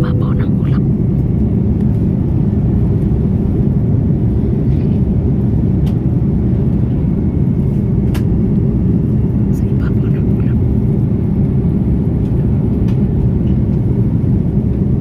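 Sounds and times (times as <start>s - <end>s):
jet airliner cabin roar: 0.0s - 15.0s.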